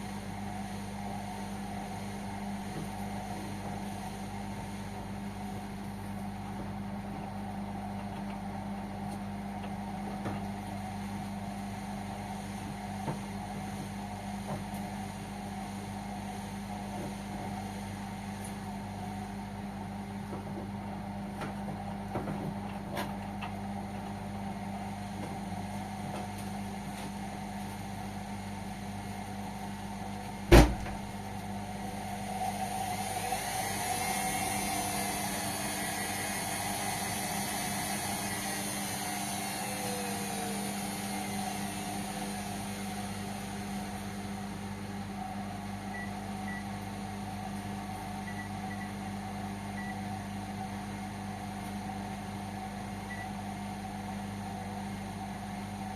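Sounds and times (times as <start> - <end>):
washing machine hum: 0.0 - 55.9.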